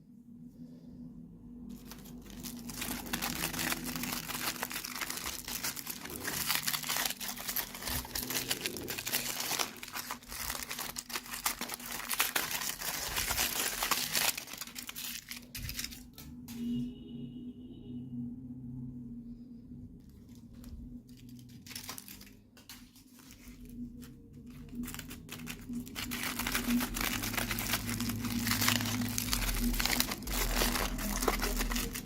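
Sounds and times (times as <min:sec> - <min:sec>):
plastic packaging crackling: 0:01.7 - 0:16.5, 0:20.3 - 0:32.0.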